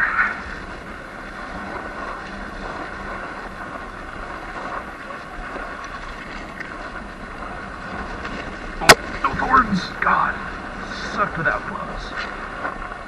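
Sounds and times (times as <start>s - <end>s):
electric motorbike motor and tyres: 0.0s - 13.0s
wind on microphone: 0.0s - 13.0s.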